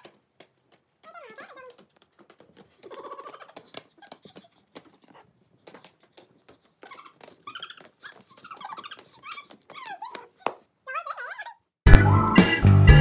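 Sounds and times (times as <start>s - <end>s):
quick taps and scuffles: 0.0s - 10.7s.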